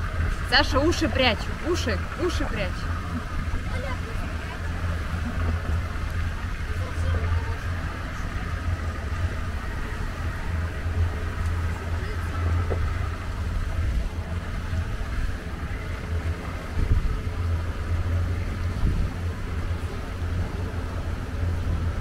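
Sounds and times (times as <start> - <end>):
boat engine running: 0.0 - 22.0
wind buffeting microphone: 0.0 - 22.0.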